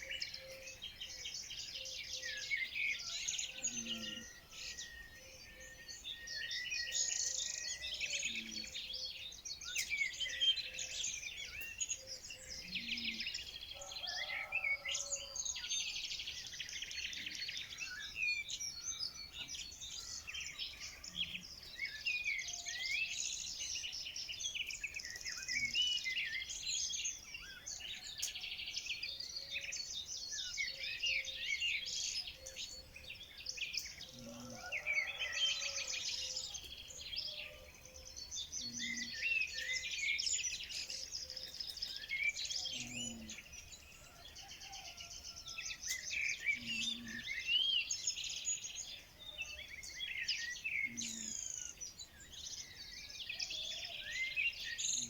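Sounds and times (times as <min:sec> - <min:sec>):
songbirds chirping and singing: 0:00.0 - 0:55.0.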